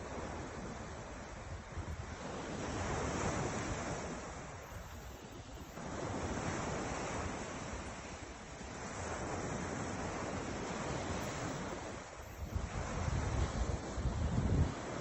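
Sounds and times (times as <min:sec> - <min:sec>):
wind rumbling on microphone: 0:00.0 - 0:15.0
ocean surf breaking: 0:02.1 - 0:15.0.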